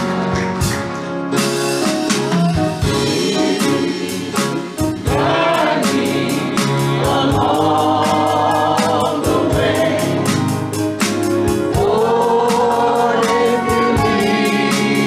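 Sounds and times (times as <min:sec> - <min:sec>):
drum kit on cymbals: 0:00.0 - 0:15.0
choir singing gospel: 0:02.8 - 0:15.0.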